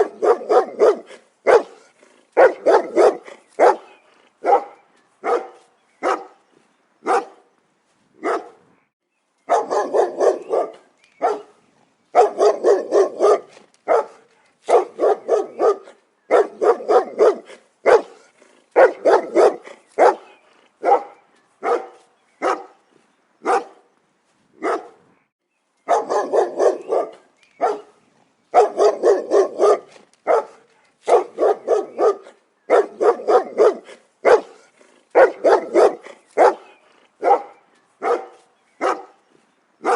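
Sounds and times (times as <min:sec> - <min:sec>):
dog barking: 0:00.0 - 0:06.4, 0:07.0 - 0:07.4, 0:08.2 - 0:08.6, 0:09.5 - 0:11.6, 0:12.2 - 0:22.8, 0:23.4 - 0:23.8, 0:24.6 - 0:25.0, 0:25.9 - 0:39.2.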